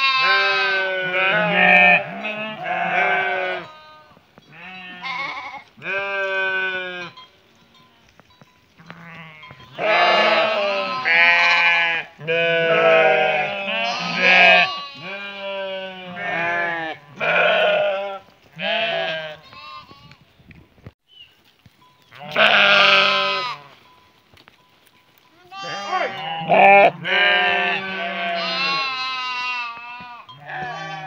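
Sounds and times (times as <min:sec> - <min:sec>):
sheep bleating: 0:00.0 - 0:07.2, 0:08.8 - 0:20.1, 0:22.1 - 0:23.8, 0:25.4 - 0:31.0.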